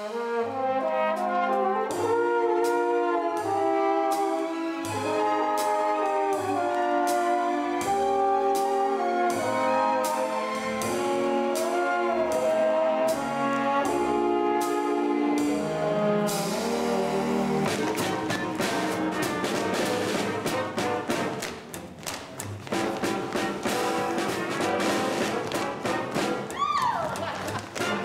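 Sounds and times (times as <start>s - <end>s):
brass swing band music: 0.0s - 28.0s.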